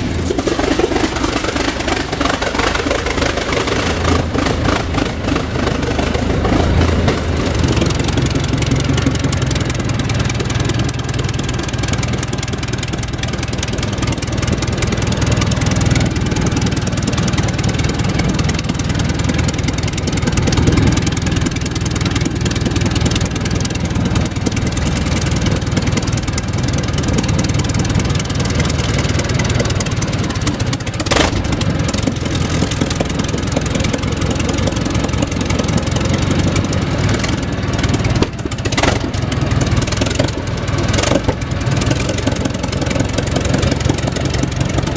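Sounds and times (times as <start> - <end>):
large engine rumbling: 0.0 - 44.9.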